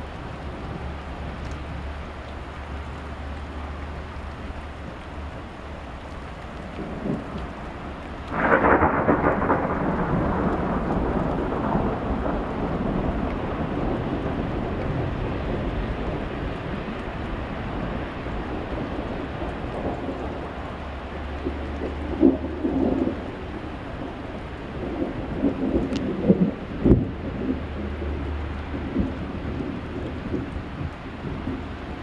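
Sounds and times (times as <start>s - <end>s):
rain and sleet falling: 0.0s - 32.0s
thunder clap rumbling: 6.2s - 32.0s.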